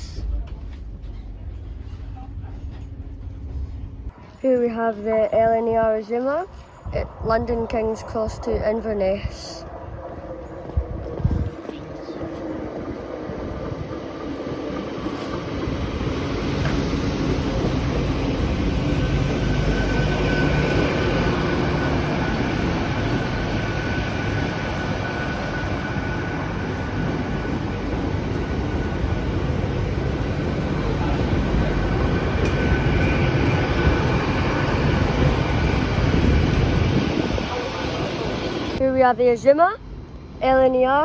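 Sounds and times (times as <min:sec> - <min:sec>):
train diesel engines rumbling: 0:00.0 - 0:41.0.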